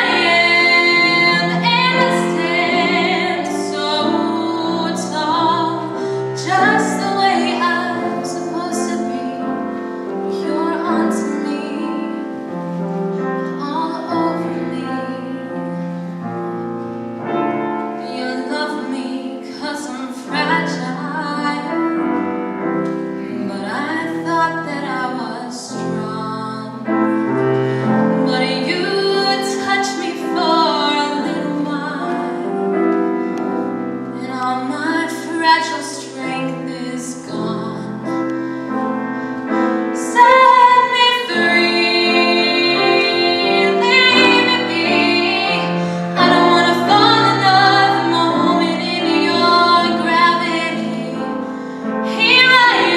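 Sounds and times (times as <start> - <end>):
woman singing: 0.0 - 12.4, 13.5 - 15.6, 18.0 - 22.1, 23.3 - 32.8, 34.1 - 38.3, 39.5 - 52.9
piano accompaniment: 0.0 - 52.9.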